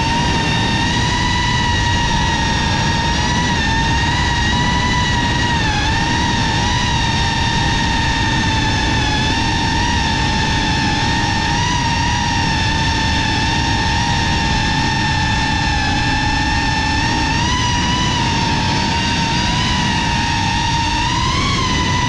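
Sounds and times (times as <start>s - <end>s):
drone motors whining: 0.0s - 22.0s
rushing air: 0.0s - 22.0s.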